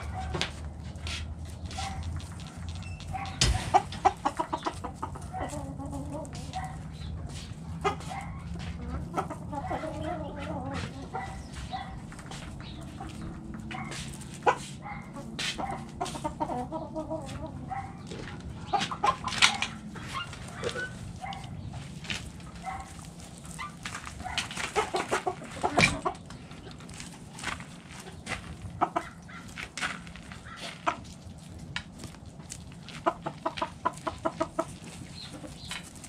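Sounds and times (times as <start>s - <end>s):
hens clucking: 0.0s - 36.0s.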